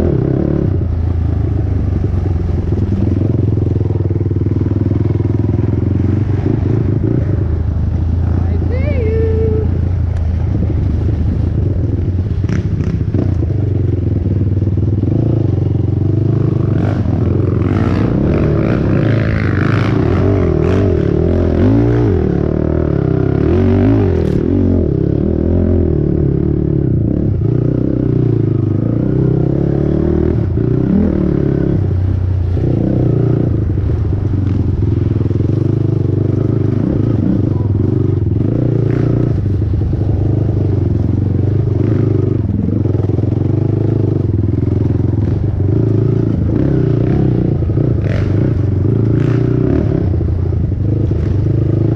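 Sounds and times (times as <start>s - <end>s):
quad bike engine revving: 0.0s - 51.9s.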